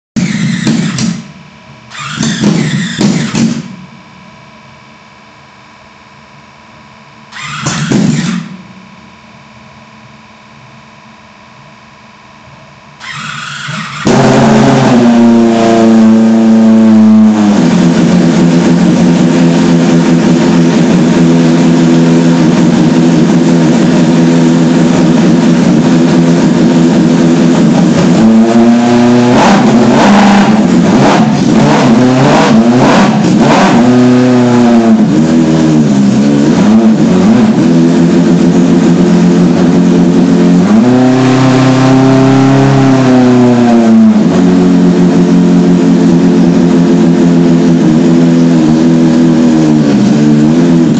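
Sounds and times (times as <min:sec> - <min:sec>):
engine idling and revving: 0:00.2 - 0:04.1, 0:07.3 - 0:08.8, 0:13.0 - 0:50.9.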